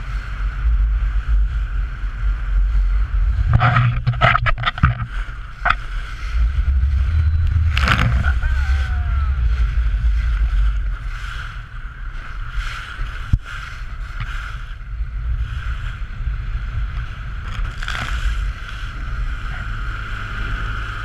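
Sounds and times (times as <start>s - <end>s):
boat hull over choppy water: 0.0s - 21.0s
wind buffeting microphone: 0.0s - 21.0s
outboard motor running: 0.2s - 21.0s.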